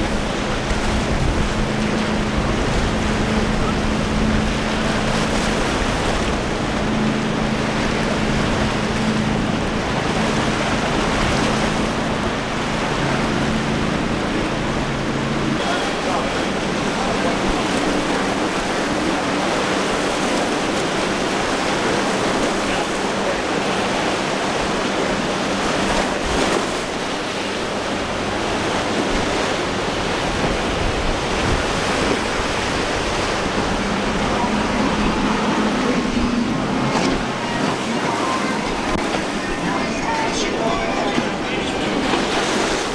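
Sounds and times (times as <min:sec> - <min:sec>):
breaking surf rushing: 0:00.0 - 0:42.9
faint outboard motors humming: 0:00.0 - 0:42.9.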